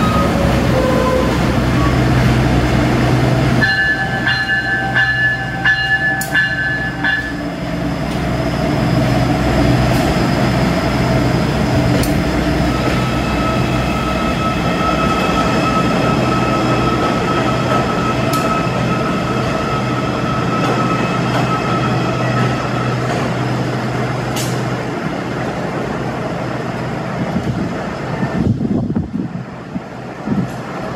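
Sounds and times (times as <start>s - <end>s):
train engine hum: 0.0s - 30.9s.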